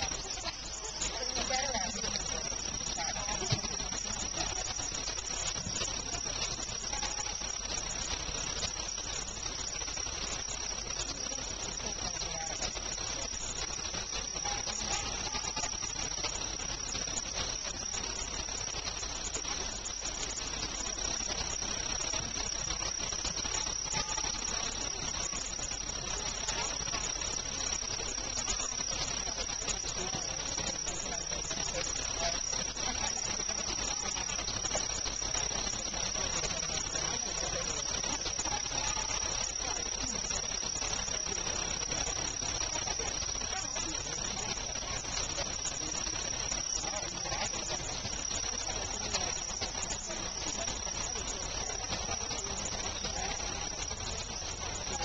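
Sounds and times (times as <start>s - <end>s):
constant high insect trill: 0.0s - 55.0s
fast pulsing insect chirp: 0.0s - 55.0s.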